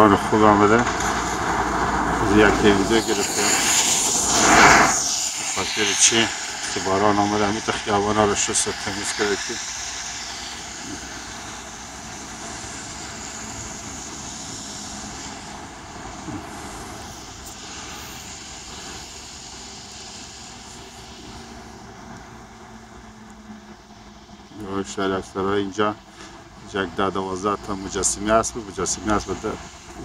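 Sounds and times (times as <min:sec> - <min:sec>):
car engine hum: 0:00.0 - 0:30.0
tyre hiss on wet road: 0:00.0 - 0:30.0.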